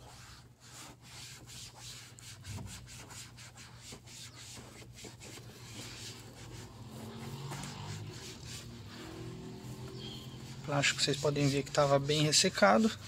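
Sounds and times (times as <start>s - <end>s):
pad scrubbing plastic panel: 0.0s - 13.0s.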